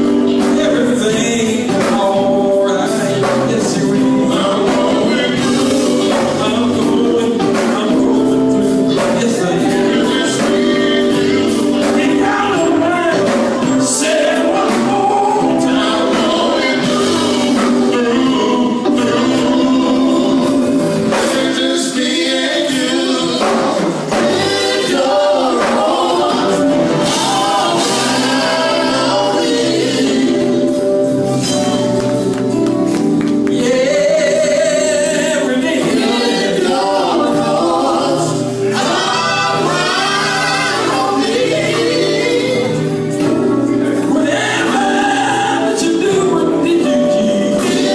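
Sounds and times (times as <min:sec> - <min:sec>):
percussion: 0:00.0 - 0:47.9
vocal group singing in harmony: 0:00.0 - 0:47.9.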